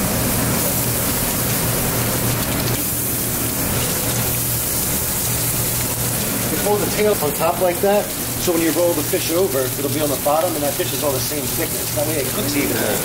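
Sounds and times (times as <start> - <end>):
fish sizzling in a skillet: 0.0 - 13.0.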